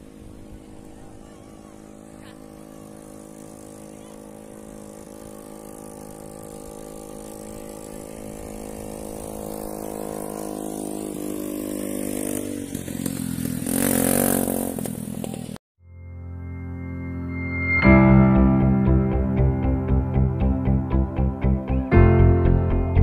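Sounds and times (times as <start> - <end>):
motor engine running steadily: 0.0 - 13.7, 17.9 - 23.0.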